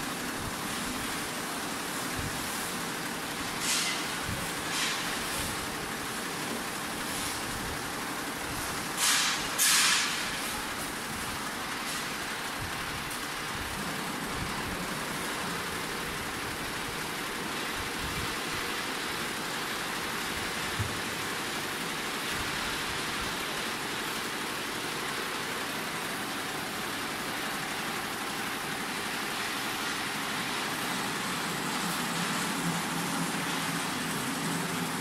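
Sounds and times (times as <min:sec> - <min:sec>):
embroidery machine running: 0:00.0 - 0:35.0.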